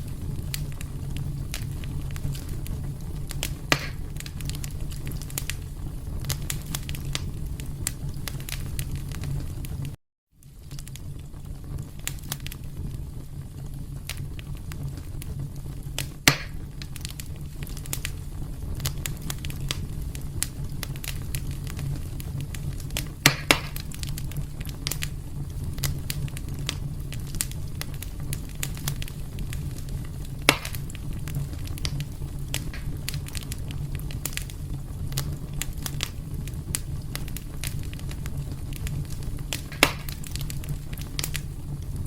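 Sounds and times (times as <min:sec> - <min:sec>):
fire crackling: 0:00.0 - 0:42.0
fire rumbling: 0:00.0 - 0:42.0
sharp fire pops: 0:00.0 - 0:42.0.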